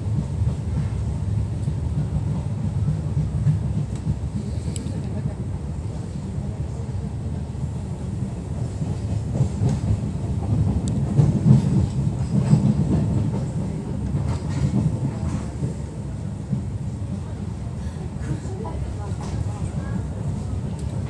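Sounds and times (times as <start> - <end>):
train rumbling from inside carriage: 0.0 - 21.0.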